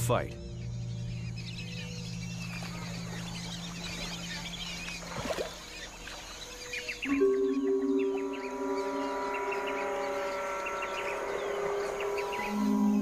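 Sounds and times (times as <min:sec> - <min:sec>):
sustained low musical chord: 0:00.0 - 0:05.0, 0:07.0 - 0:13.0
low steady drone: 0:00.0 - 0:05.8, 0:07.1 - 0:13.0
small birds chirping: 0:00.0 - 0:13.0.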